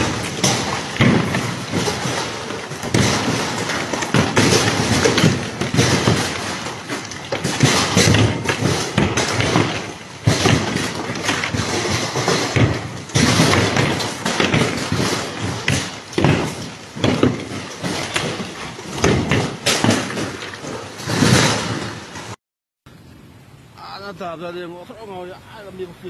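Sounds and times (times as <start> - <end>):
hailstones clattering on hard surfaces: 0.0 - 21.8
large hailstones thudding: 0.0 - 22.4.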